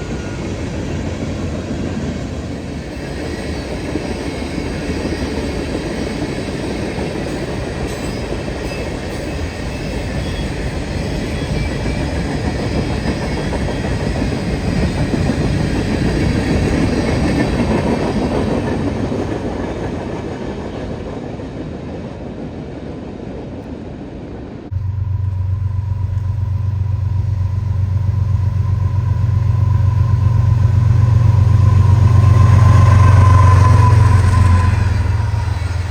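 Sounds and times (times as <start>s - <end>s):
train rolling past: 0.0s - 35.9s.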